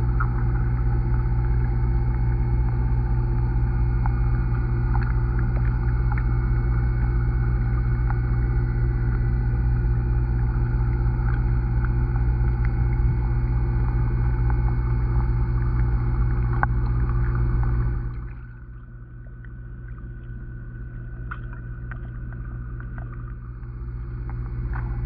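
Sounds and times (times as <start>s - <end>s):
faint underwater clicks: 0.0s - 25.0s
underwater low drone: 0.0s - 25.0s.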